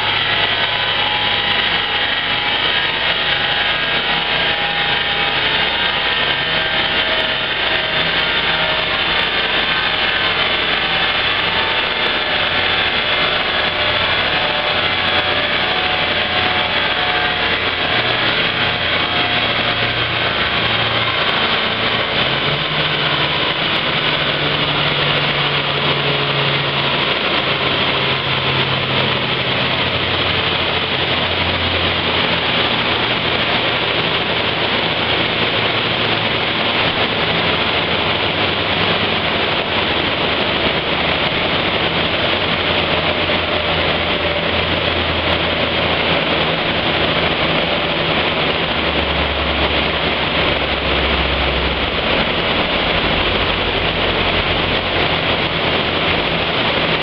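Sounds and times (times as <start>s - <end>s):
car engine running under load: 0.0s - 57.0s.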